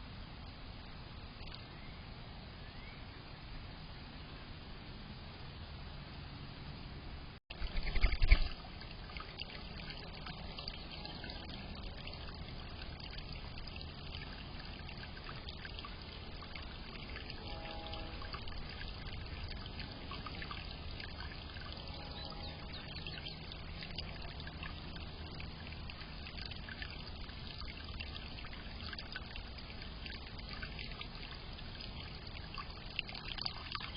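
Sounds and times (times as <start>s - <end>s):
fountain water trickling: 0.1s - 4.3s, 7.5s - 33.9s.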